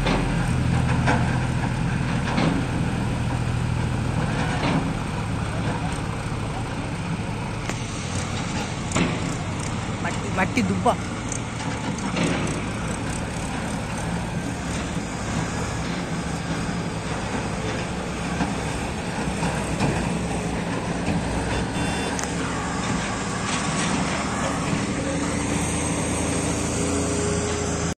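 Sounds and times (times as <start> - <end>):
diesel engines running under load: 0.0 - 28.0.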